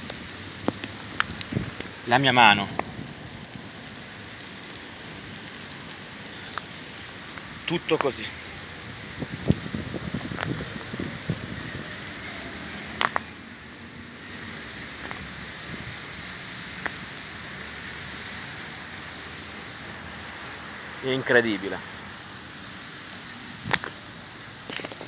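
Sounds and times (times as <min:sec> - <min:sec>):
hail pattering on rubber: 0:00.0 - 0:25.0
hailstones clicking close by: 0:00.0 - 0:25.0.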